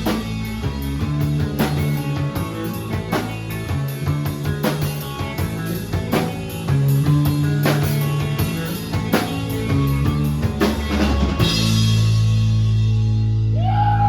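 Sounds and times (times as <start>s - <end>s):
bass notes: 0.0s - 14.0s
electric guitar: 0.0s - 14.0s.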